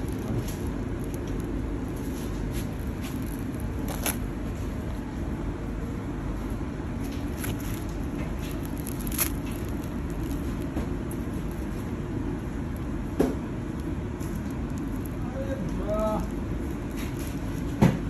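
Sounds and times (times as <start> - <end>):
crispy fried pastry crackling: 0.0 - 5.3, 6.9 - 18.0.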